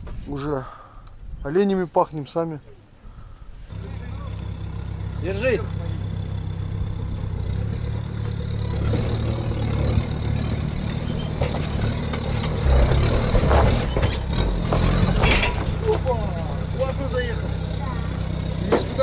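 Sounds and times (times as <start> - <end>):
diesel engine under load: 3.2 - 19.0.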